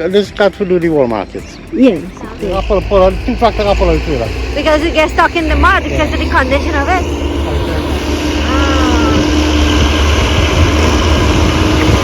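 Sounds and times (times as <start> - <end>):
heavy diesel engine rumbling: 1.6 - 12.0.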